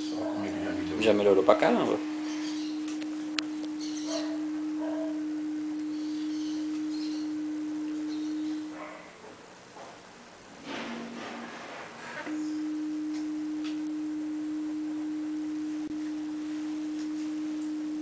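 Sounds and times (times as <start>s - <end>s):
steady test tone: 0.0s - 9.2s, 12.2s - 18.0s.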